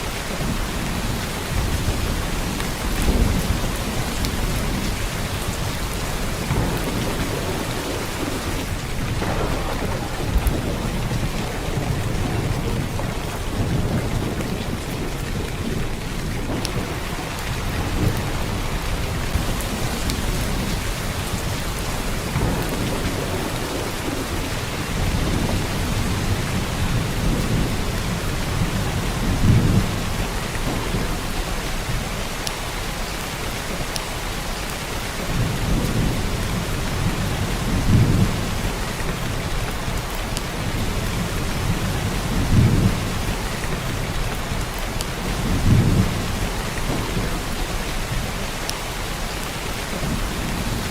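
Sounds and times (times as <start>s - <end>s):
heavy rain downpour: 0.0s - 50.9s.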